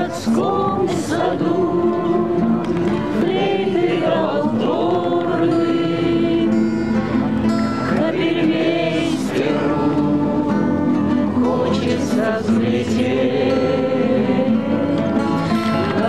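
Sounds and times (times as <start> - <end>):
men singing in unison: 0.0 - 6.6, 8.0 - 16.0
strummed acoustic guitars: 0.0 - 16.0.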